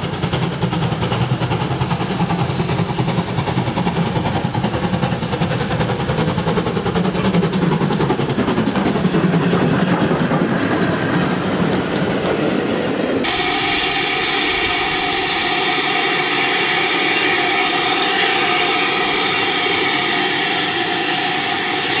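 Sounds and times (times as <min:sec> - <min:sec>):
steady rushing noise: 0:00.0 - 0:22.0
steam train clattering past: 0:00.0 - 0:22.0.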